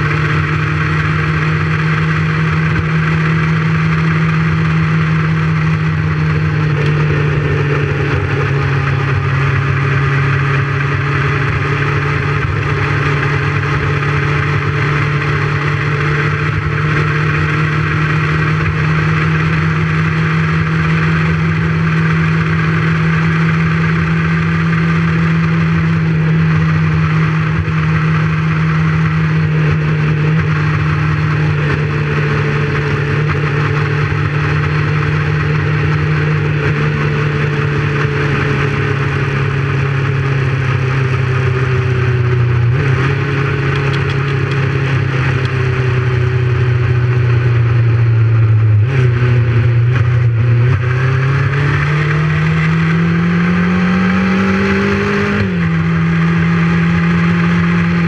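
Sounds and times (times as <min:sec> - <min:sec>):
motorcycle engine cruising: 0:00.0 - 0:58.0
wind and road rush: 0:00.0 - 0:58.0.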